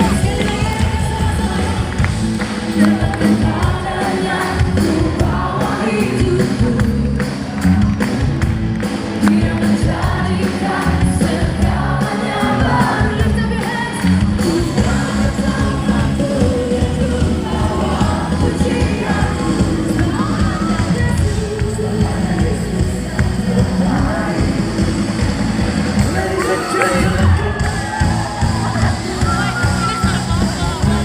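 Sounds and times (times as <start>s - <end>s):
crowd voices: 0.0s - 31.0s
drums beat: 0.0s - 31.0s
live band and singers: 0.0s - 31.0s.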